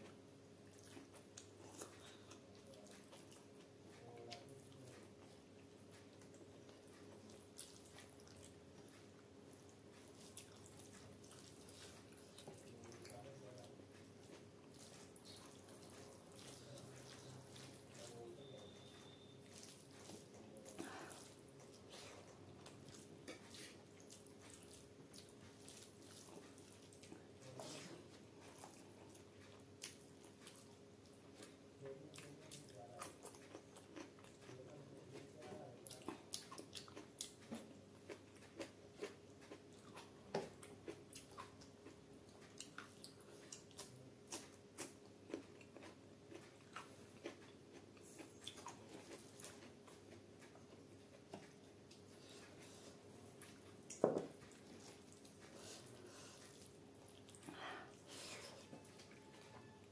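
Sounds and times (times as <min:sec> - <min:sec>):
wet chewing and mouth smacks: 0:00.6 - 0:27.6, 0:28.4 - 0:59.8.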